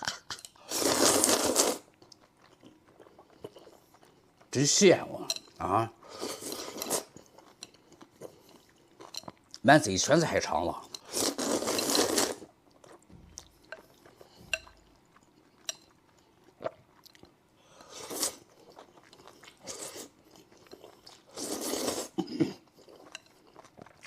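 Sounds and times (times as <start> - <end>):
person eating noodles: 0.0 - 4.5, 5.2 - 9.6, 10.8 - 24.0.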